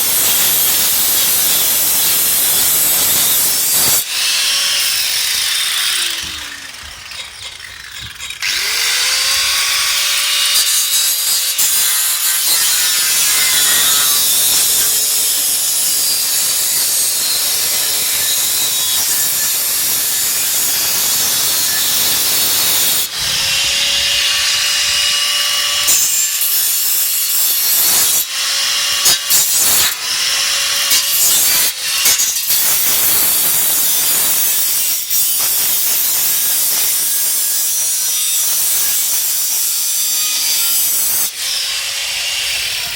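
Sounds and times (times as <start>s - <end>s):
angle grinder cutting metal: 0.0s - 42.9s.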